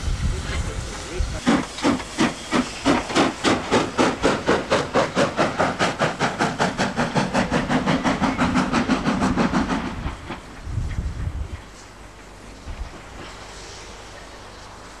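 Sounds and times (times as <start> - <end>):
steam hissing: 0.0 - 15.0
steam locomotive exhaust beats: 0.0 - 15.0.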